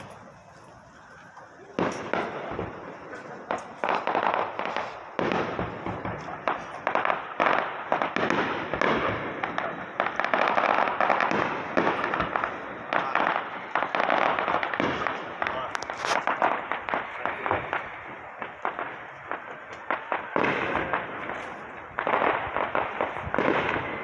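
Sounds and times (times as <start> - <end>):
fireworks bangs: 0.0 - 24.0
fireworks crackling: 0.0 - 24.0.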